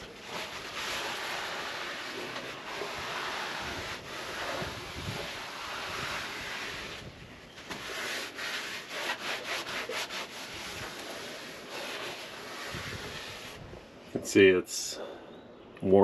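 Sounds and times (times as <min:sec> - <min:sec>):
cloth scrubbing a dashboard: 0:00.0 - 0:13.7.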